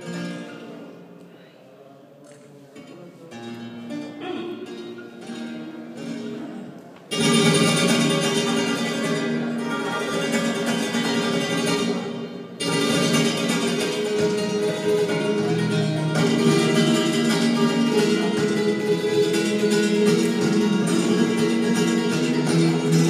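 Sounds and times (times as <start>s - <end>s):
flamenco guitar playing: 0.0s - 1.4s, 2.8s - 23.0s.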